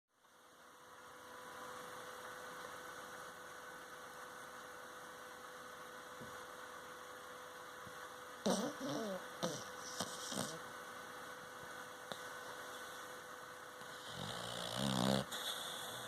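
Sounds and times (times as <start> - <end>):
faint electrical hum with hiss: 0.1 - 16.0.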